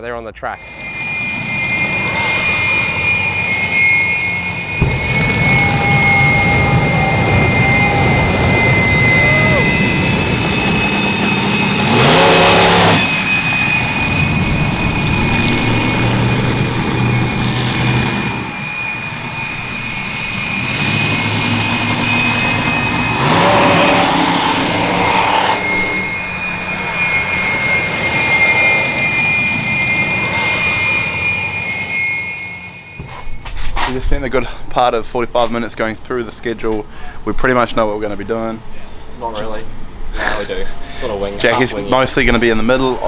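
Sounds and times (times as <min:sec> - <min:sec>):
jet engine whine and rush: 0:00.5 - 0:43.0.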